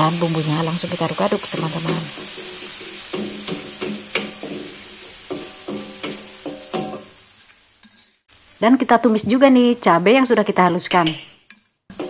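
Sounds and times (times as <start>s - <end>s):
paste sizzling in hot oil: 0.0s - 10.3s.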